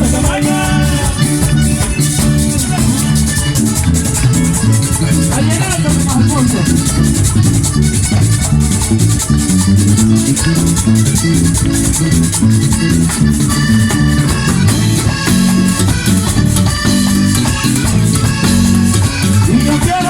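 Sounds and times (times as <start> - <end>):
bass line: 0.0 - 20.0
rattling percussion rhythm: 0.0 - 20.0
sustained melody notes: 0.0 - 20.0.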